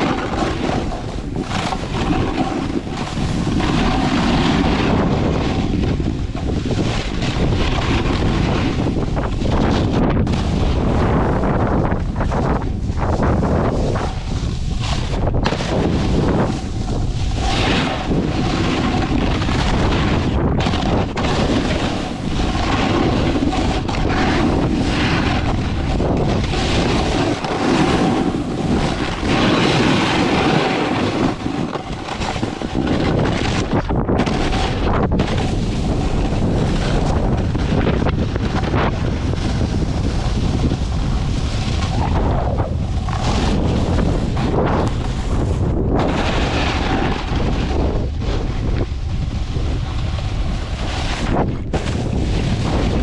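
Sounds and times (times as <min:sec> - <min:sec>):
snowboard carving through snow: 0:00.0 - 0:53.0
wind buffeting microphone: 0:00.0 - 0:53.0.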